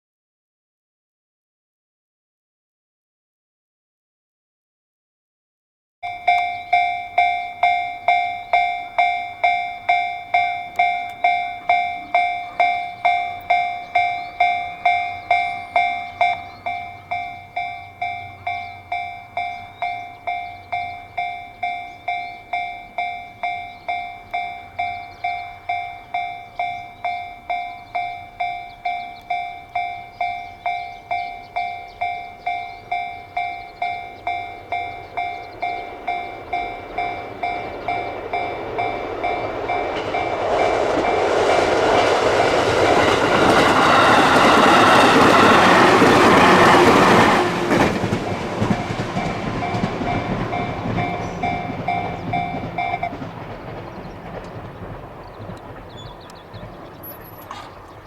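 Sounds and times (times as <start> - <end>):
level crossing bell clanging: 6.0 - 58.0.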